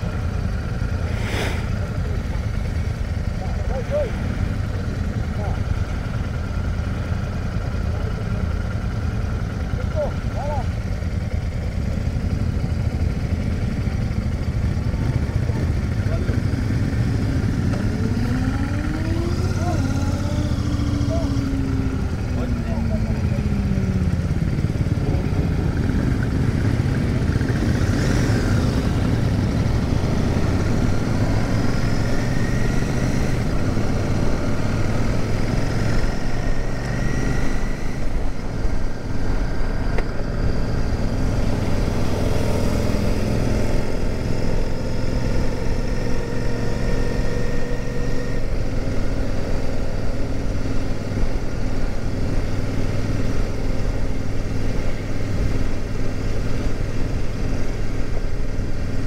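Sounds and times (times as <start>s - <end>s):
motorcycle engine running: 0.0s - 59.0s
other motorcycles nearby: 0.0s - 59.0s.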